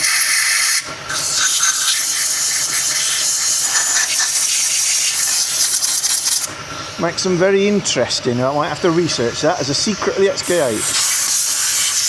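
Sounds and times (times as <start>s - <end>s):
compressed air blow gun hissing: 0.0s - 7.6s, 8.4s - 12.0s.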